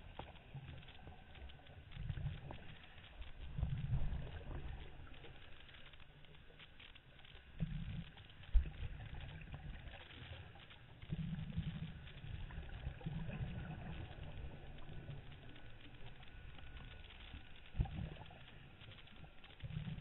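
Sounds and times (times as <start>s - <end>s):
underwater regulator bubbles: 0.0s - 20.0s.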